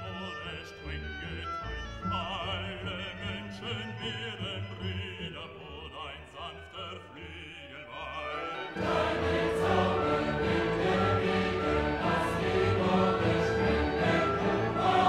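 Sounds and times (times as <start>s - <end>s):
classical singing with vibrato: 0.0s - 15.0s.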